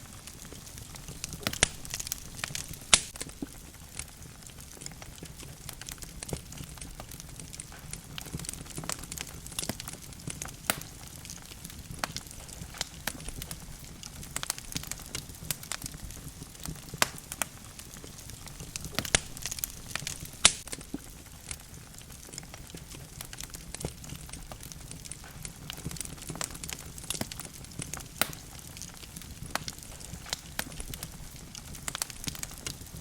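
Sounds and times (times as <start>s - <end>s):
logs crackling and popping: 0.0s - 33.0s
low rumble of flames: 0.0s - 33.0s.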